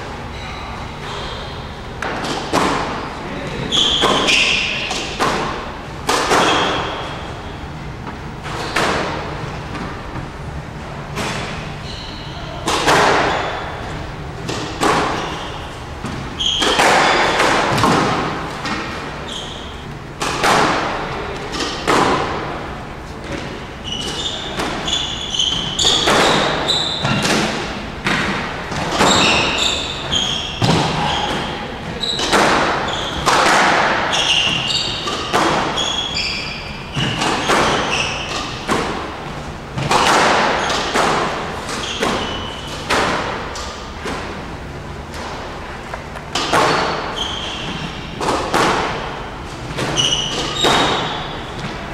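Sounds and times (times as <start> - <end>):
shoes squeaking on court floor: 0.0 - 51.9
squash ball hitting rackets and walls: 0.0 - 51.9.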